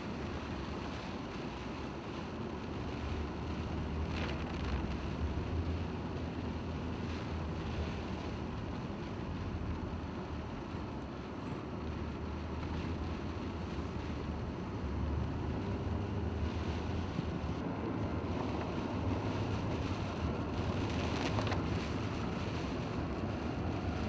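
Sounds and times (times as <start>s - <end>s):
rain on window glass: 0.0s - 24.0s
vehicle rumbling from inside: 0.0s - 24.0s.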